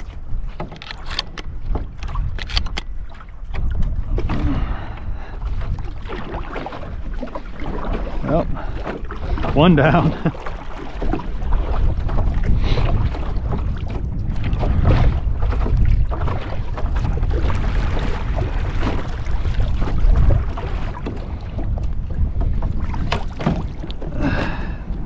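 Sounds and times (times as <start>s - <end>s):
water sloshing and splashing: 0.0s - 25.0s
wind buffeting microphone: 0.0s - 25.0s.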